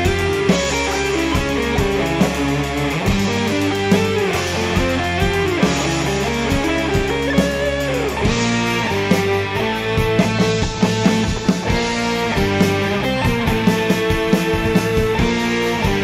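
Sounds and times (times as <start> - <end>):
bass: 0.0 - 16.0
electric guitar lead: 0.0 - 16.0
steady drum beat: 0.0 - 16.0.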